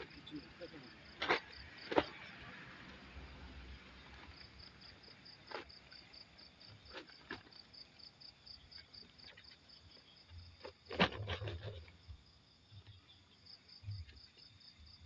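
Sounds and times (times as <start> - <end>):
cricket chirping trill: 0.0 - 15.0.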